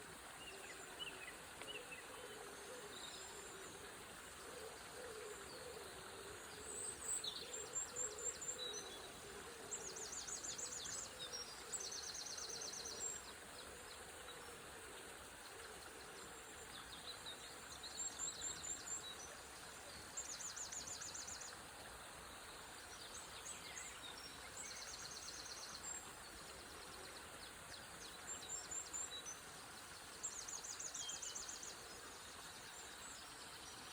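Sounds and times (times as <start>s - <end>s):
flowing water: 0.0s - 33.9s.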